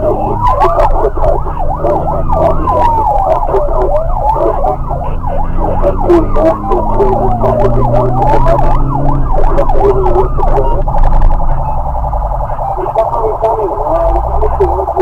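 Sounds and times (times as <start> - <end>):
police siren wail and yelp: 0.0 - 15.0
vehicle engine hum: 0.0 - 15.0.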